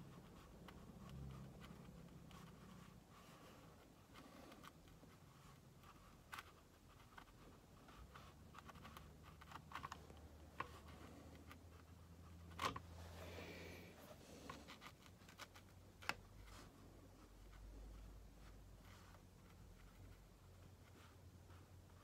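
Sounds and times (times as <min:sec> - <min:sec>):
brush scratching on paper: 0:00.0 - 0:22.0.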